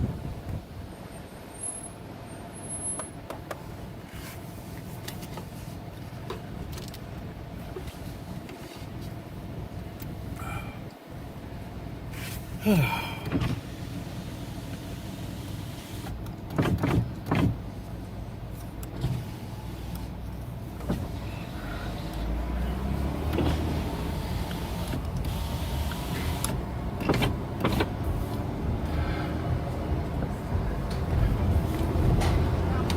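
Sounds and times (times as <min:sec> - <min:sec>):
road and engine rumble: 0:00.0 - 0:32.9.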